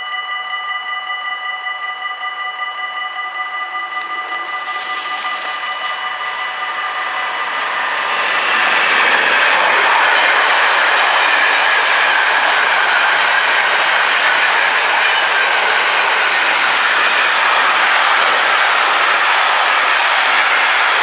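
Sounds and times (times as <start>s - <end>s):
freight train running on rails: 0.0s - 21.0s
level crossing warning bells: 0.0s - 21.0s.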